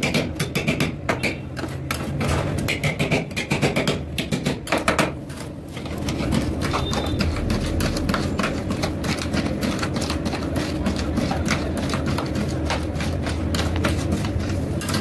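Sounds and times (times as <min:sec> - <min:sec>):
metal spatulas chopping on steel plate: 0:00.0 - 0:15.0.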